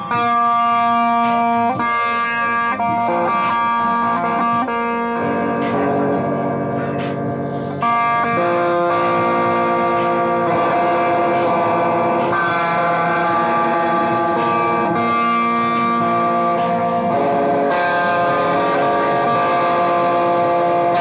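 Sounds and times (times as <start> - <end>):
effects guitar sustained notes: 0.0 - 21.0
steady beat: 0.0 - 21.0.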